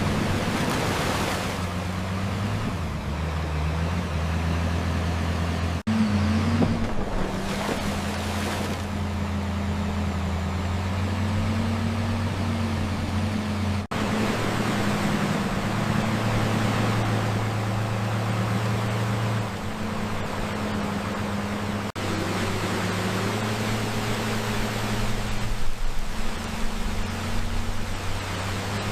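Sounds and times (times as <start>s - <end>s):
truck engine low drone: 0.0s - 28.9s.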